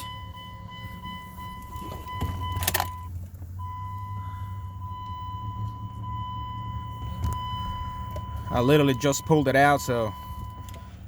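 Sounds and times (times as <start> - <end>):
high electronic warning tone: 0.0 - 10.7.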